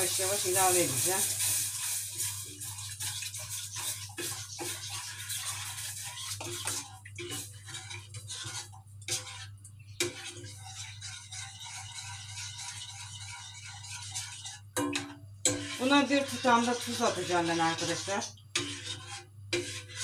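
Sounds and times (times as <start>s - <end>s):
utensil scraping metal saucepan: 0.0s - 20.0s.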